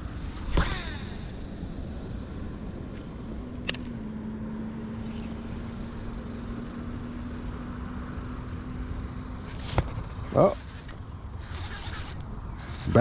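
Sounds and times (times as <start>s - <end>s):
low even hum: 0.0s - 13.0s
outdoor rumble and hiss: 0.0s - 13.0s.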